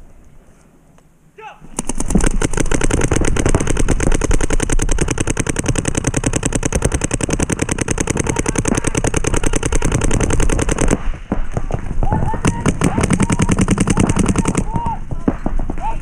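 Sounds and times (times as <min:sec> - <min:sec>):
paintball marker firing rapidly: 0:01.7 - 0:15.9.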